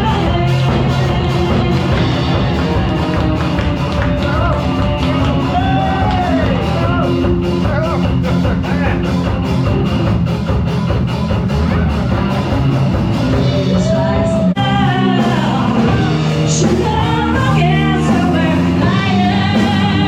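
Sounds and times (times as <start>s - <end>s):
rock music with singing: 0.0s - 20.0s
steady drum beat: 0.0s - 20.0s.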